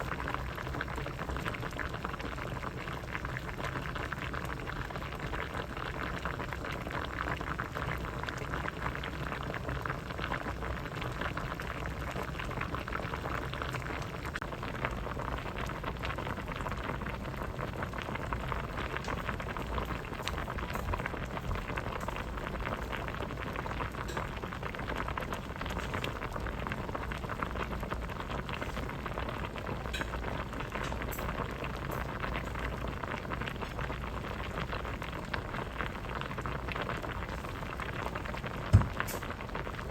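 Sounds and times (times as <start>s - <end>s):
soup bubbling in a pot: 0.0s - 39.9s.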